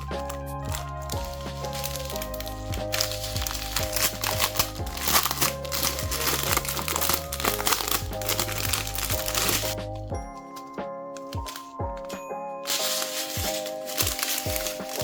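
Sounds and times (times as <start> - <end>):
background music with held notes: 0.0 - 15.0
packaging crinkling: 0.0 - 15.0.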